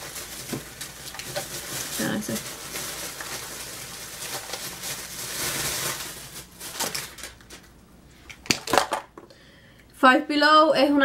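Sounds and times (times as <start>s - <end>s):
bag crinkling rustle: 0.0s - 9.0s.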